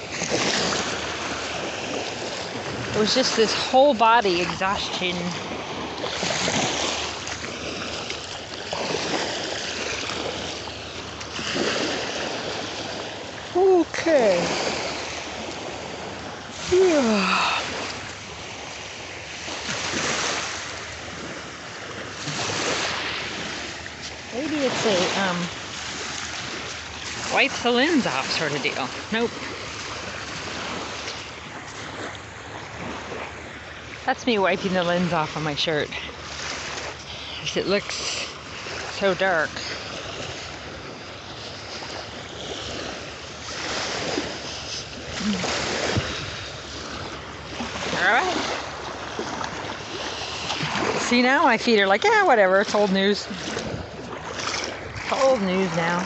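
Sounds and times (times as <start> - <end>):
small waves washing onto beach: 0.0 - 56.0.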